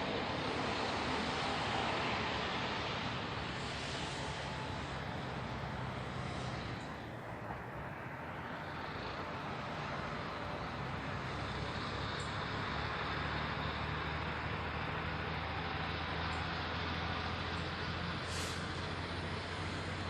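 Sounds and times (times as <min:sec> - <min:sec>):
engine drone with hiss: 0:00.0 - 0:20.0.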